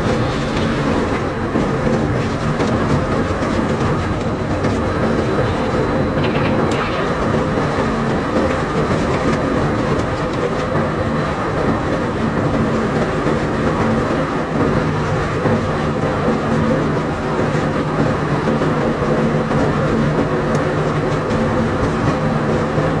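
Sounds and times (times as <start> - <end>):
machinery rattle and clatter: 0.0 - 23.0.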